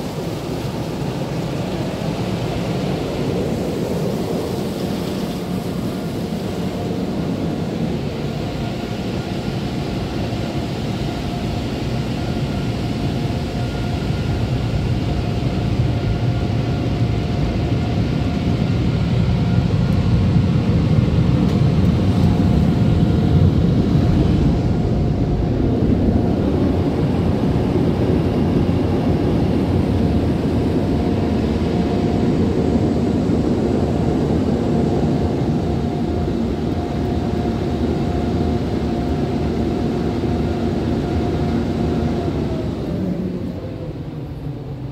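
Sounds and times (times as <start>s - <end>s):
dryer blowers roaring and whining: 0.0s - 44.9s.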